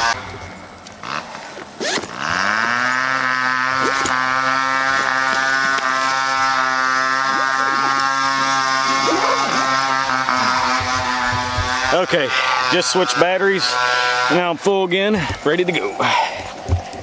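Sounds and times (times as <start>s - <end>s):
chainsaw engine buzzing: 0.0s - 15.4s.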